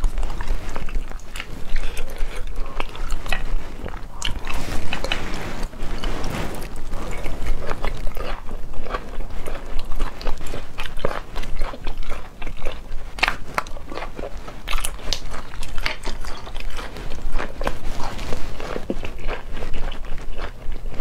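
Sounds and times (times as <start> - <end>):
person chewing wetly: 0.0 - 21.0.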